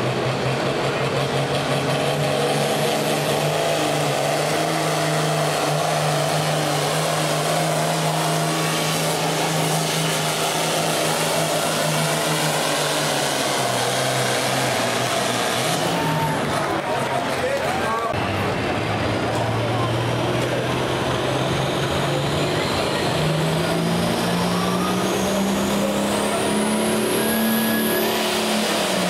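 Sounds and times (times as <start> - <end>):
tractor engine at full throttle: 0.0 - 29.0.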